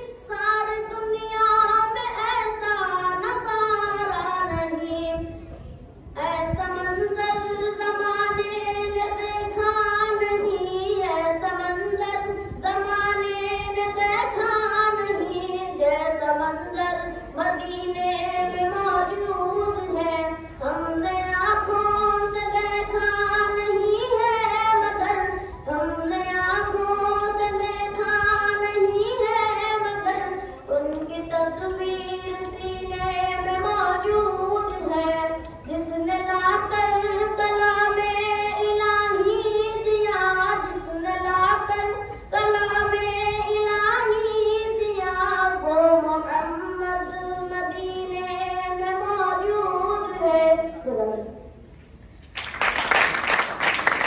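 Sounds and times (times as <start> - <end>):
boy singing unaccompanied: 0.0 - 51.4.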